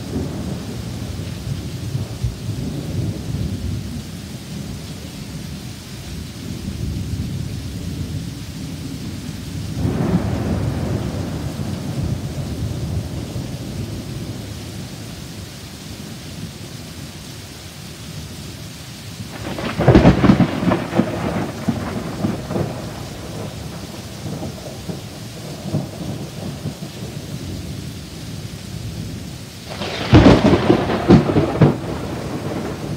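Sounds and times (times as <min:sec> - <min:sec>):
crackling thunderclaps: 0:00.0 - 0:04.8, 0:06.4 - 0:15.1, 0:19.2 - 0:32.9
heavy rain: 0:00.0 - 0:32.9.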